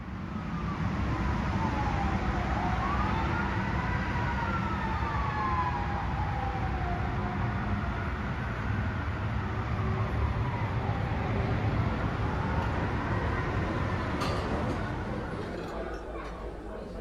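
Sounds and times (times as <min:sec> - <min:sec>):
distant siren wailing: 0:00.0 - 0:15.6
low traffic rumble: 0:00.0 - 0:17.0.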